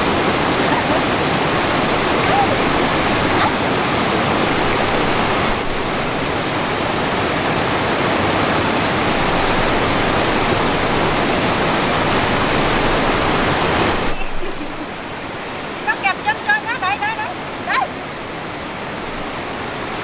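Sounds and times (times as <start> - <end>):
rushing stream water: 0.0 - 20.0.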